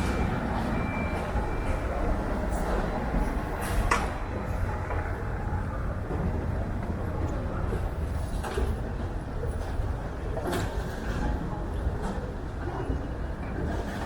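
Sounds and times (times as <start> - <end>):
low airport rumble: 0.0 - 14.0.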